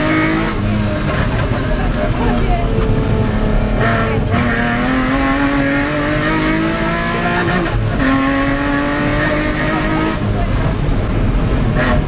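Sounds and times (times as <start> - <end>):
car engine at full throttle: 0.0 - 12.0.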